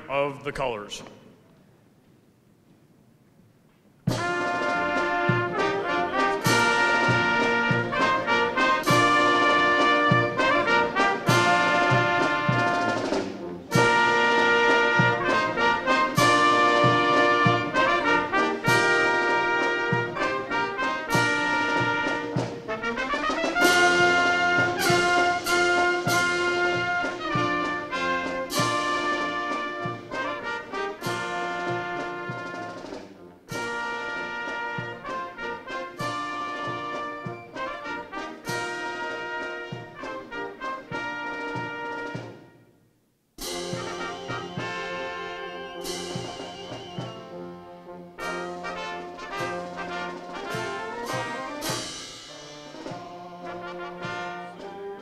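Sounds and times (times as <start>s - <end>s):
brass band playing: 4.1s - 42.7s, 43.4s - 55.0s.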